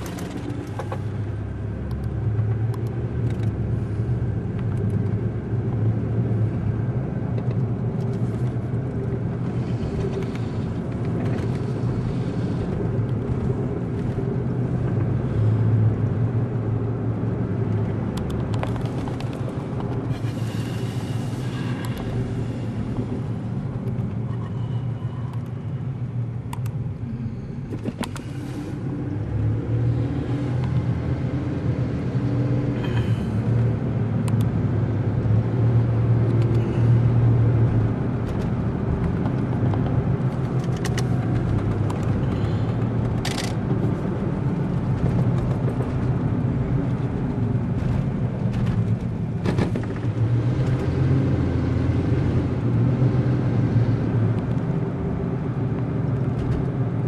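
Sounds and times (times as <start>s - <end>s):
motor vehicle rumbling: 0.0s - 57.0s.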